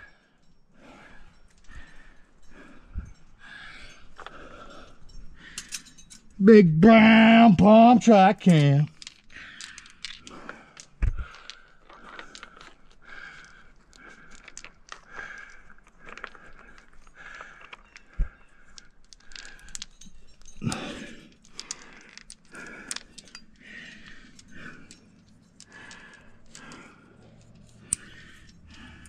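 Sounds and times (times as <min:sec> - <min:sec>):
climbing gear clinking: 0:00.0 - 0:29.0.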